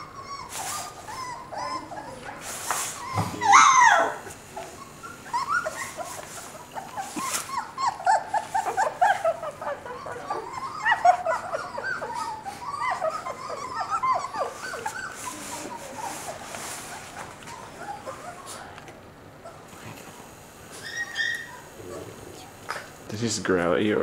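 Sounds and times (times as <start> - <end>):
puppy whimpering: 0.0 - 20.0, 20.7 - 22.8.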